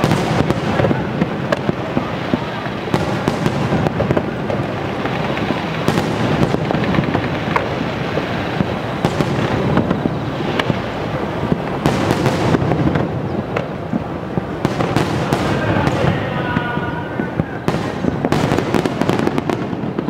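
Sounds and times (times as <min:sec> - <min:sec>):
fireworks booming: 0:00.0 - 0:20.0
fireworks sharp cracks: 0:00.0 - 0:20.0.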